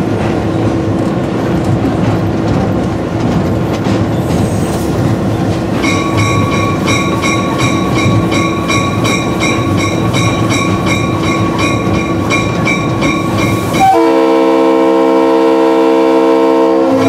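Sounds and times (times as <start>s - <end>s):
diesel locomotive rumble: 0.0s - 17.0s
train wheels on rails: 0.0s - 17.0s.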